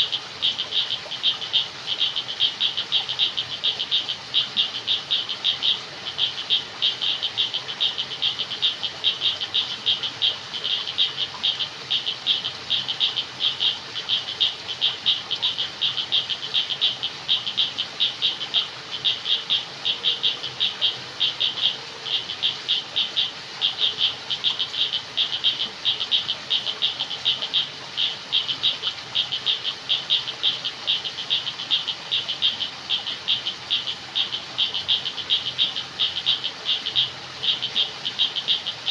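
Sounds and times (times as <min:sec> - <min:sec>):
faint background hiss: 0:00.0 - 0:38.9
frogs chorus: 0:00.0 - 0:38.9.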